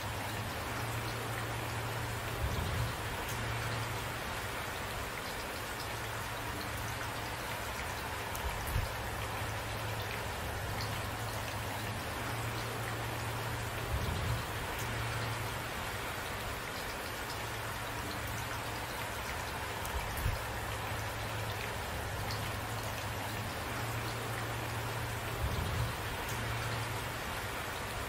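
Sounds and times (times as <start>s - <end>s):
raindrops ticking on a surface: 0.0s - 28.0s
steady rain falling: 0.0s - 28.0s.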